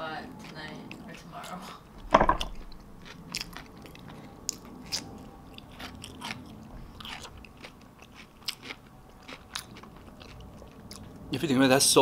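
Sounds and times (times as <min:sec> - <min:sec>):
person chewing food: 0:00.3 - 0:11.3.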